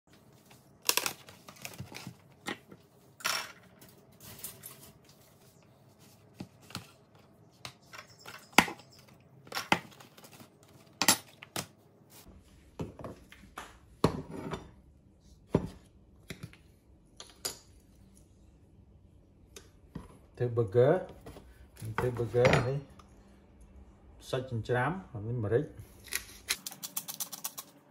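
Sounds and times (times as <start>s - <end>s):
faint steady hum: 0.2s - 27.9s.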